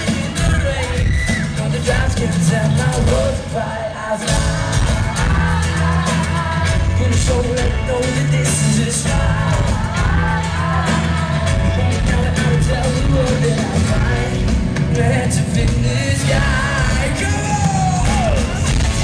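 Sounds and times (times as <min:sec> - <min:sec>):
live pop-rock band: 0:00.0 - 0:19.0
person singing: 0:00.0 - 0:19.0.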